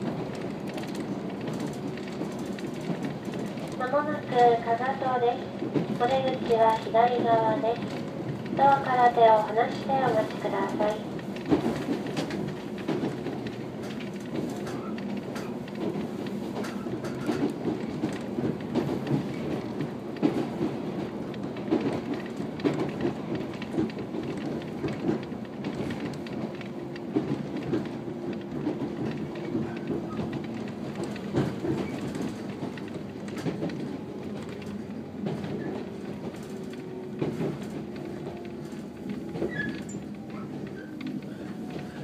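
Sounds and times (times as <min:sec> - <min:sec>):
train wheels rumbling with hum: 0:00.0 - 0:42.0.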